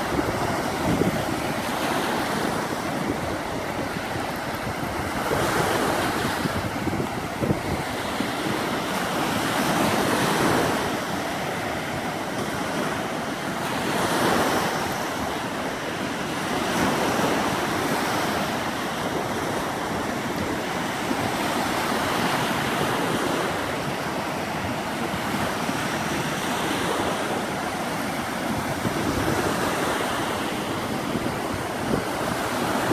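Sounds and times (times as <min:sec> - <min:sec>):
lake waves washing onto beach: 0:00.0 - 0:32.9
wind buffeting microphone: 0:00.0 - 0:32.9.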